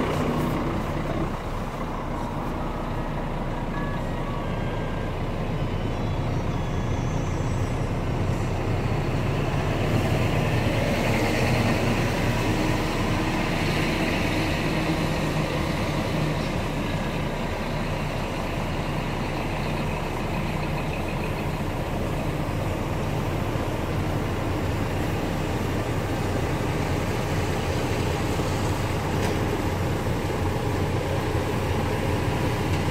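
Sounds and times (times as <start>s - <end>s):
truck diesel engine idling: 0.0s - 32.9s.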